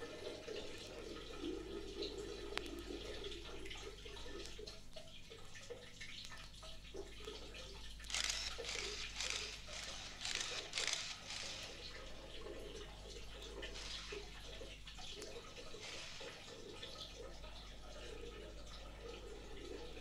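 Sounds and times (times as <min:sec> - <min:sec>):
water dripping and splashing: 0:00.0 - 0:20.0.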